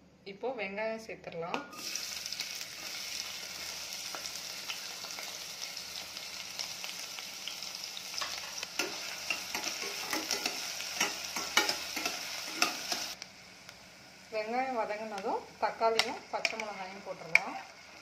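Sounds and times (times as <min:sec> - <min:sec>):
onions sizzling in oil: 0:01.7 - 0:18.0.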